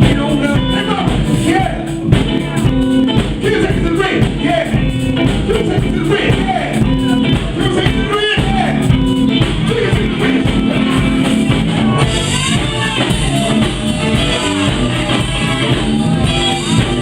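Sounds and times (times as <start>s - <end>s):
live band playing funk: 0.0s - 17.0s.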